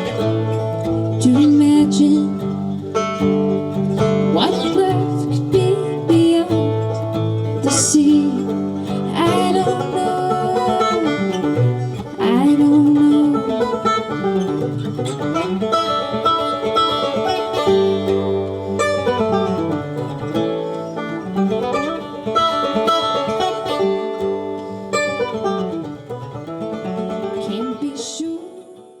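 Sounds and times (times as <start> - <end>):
fiddle lines: 0.0 - 28.0
bluegrass string band playing: 0.0 - 28.5.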